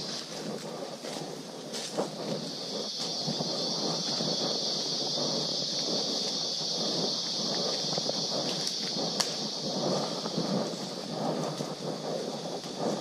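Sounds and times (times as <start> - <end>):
footsteps rustling on trail: 0.0 - 13.0
high-pitched insect chorus: 0.0 - 13.0.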